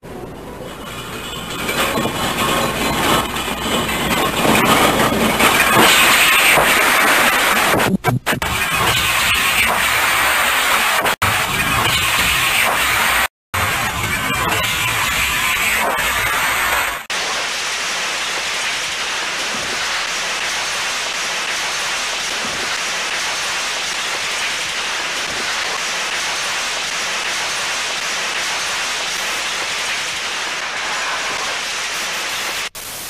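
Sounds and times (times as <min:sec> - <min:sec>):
static hiss: 0:04.9 - 0:33.0.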